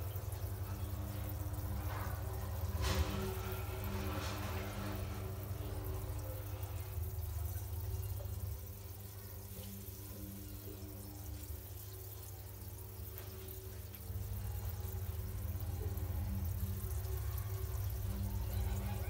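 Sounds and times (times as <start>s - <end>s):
water bubbling and trickling: 0.0s - 19.0s.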